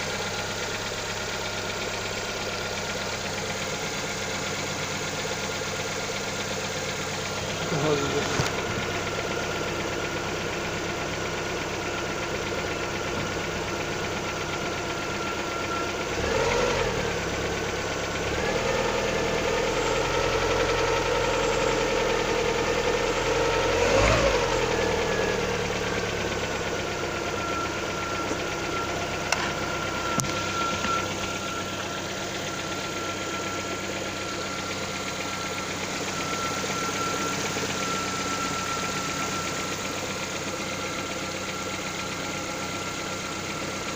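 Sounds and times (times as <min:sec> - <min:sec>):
car engine knocking: 0:00.0 - 0:43.9.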